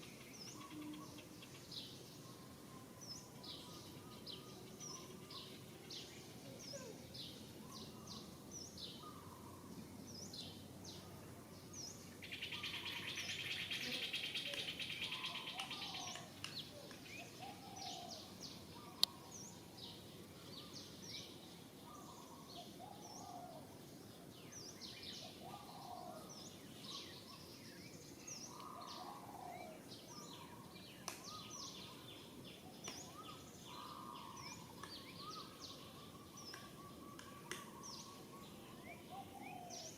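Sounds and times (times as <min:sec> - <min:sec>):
birds chirping and calling: 0:00.0 - 0:39.9.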